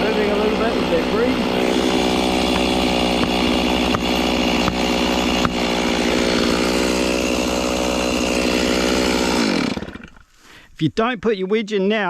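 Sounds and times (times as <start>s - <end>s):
chainsaw cutting tree trunk: 0.0s - 10.4s.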